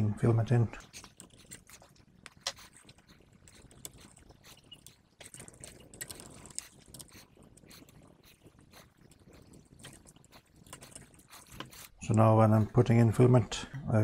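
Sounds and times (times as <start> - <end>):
plastic filament clicks and scraping: 0.7 - 13.1.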